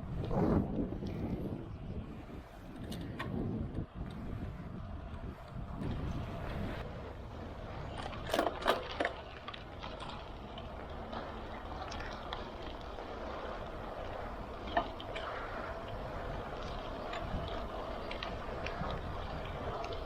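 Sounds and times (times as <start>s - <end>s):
bike tyre rumble: 0.0s - 20.0s
wind noise: 0.0s - 20.0s.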